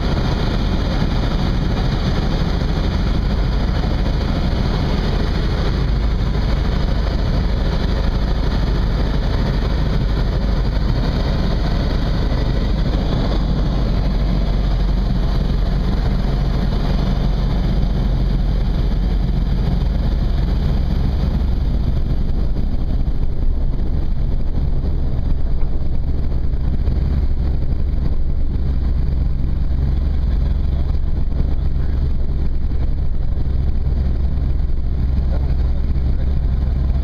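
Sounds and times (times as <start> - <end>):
aircraft engine and propeller: 0.0 - 37.0.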